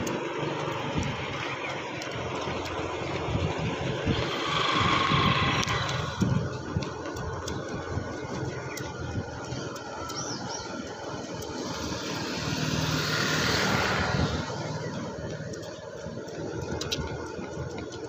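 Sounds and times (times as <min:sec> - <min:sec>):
motorcycle passing: 0:00.0 - 0:18.0
runners' footsteps on pavement: 0:00.0 - 0:18.0.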